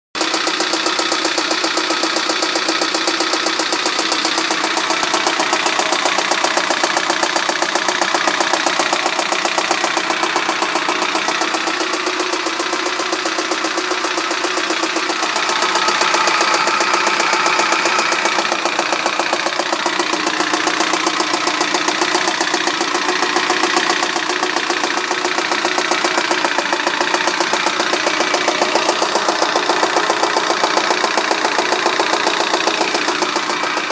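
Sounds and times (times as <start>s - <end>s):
engine with metallic knock: 0.2s - 33.9s.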